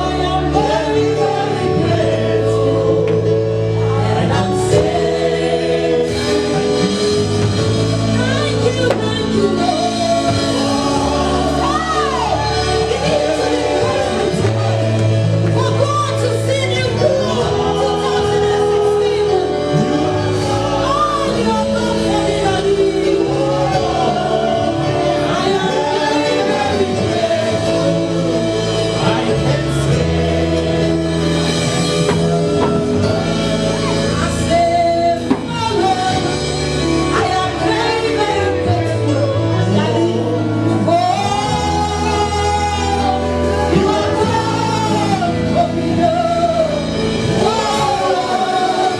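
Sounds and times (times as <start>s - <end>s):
live gospel singing: 0.0s - 48.9s.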